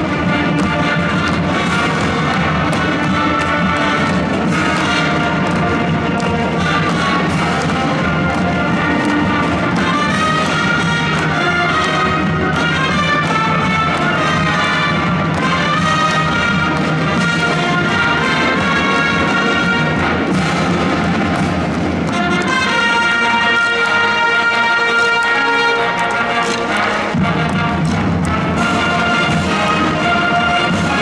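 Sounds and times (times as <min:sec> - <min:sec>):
wind band playing: 0:00.0 - 0:31.0.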